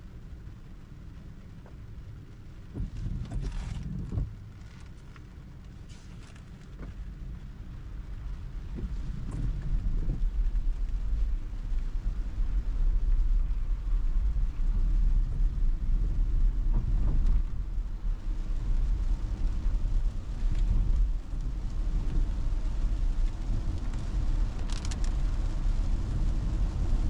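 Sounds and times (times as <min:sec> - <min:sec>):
road and tyre rumble in car: 0:00.0 - 0:27.0.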